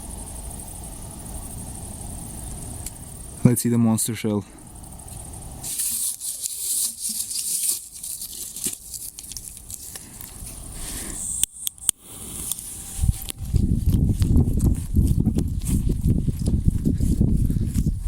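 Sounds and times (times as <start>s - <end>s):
firework fuse hissing and crackling: 0.0s - 16.1s.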